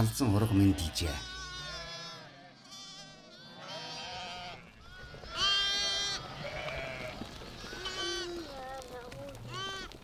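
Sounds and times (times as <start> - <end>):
sheep bleating: 0.4 - 8.6, 9.5 - 10.0.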